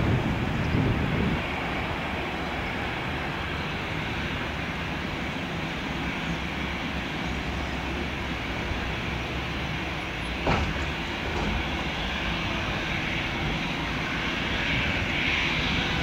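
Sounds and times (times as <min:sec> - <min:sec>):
jet engines taxiing: 0:00.0 - 0:16.0.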